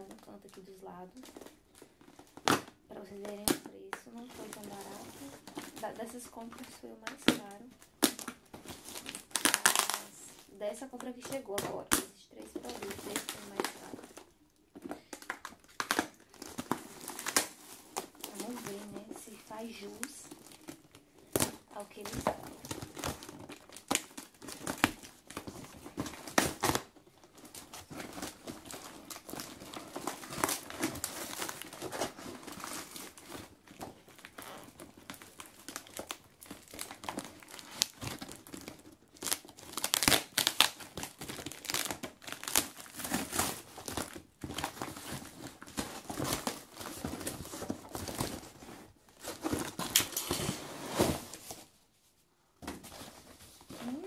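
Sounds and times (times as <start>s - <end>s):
packaging crumpled and torn: 0.0s - 51.7s, 52.8s - 54.0s.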